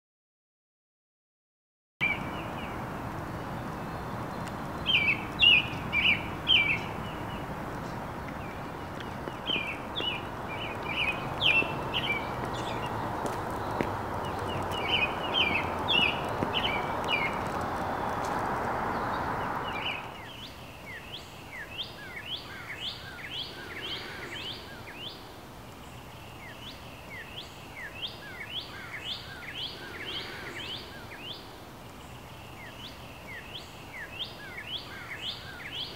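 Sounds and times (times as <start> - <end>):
songbirds chirping: 2.0 - 35.9
steady background noise: 2.0 - 35.9.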